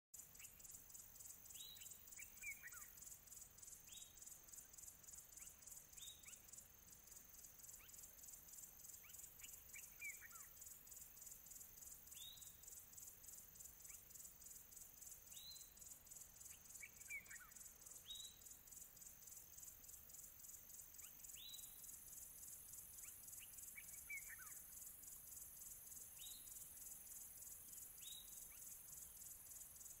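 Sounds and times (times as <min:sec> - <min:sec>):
insect chorus pulsing: 0:00.2 - 0:30.0.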